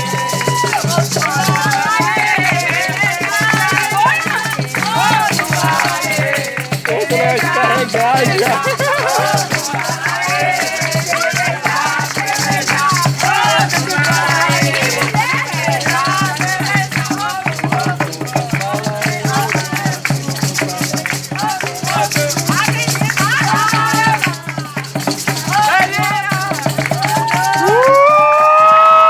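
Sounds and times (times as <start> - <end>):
many voices singing: 0.0 - 28.0
drums: 0.0 - 29.0
maracas shaking: 0.0 - 29.0.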